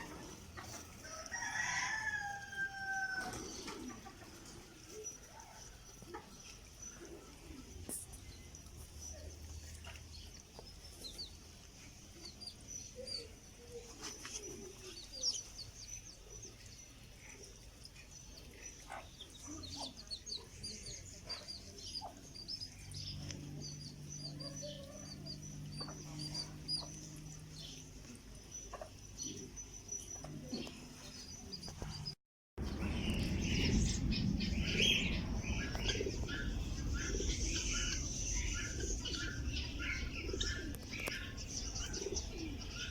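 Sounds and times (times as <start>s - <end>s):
small birds chirping: 3.3s - 42.9s.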